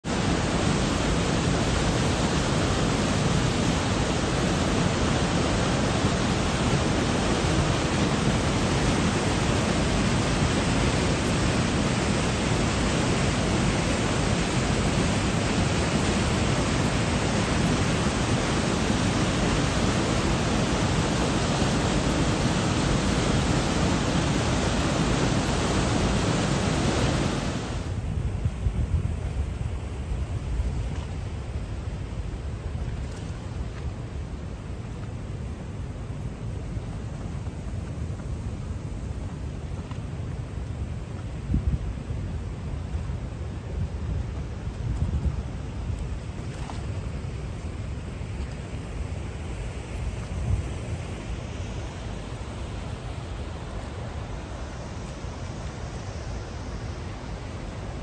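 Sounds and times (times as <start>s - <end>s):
waterfall rushing over rocks: 0.0s - 28.1s, 31.6s - 58.0s.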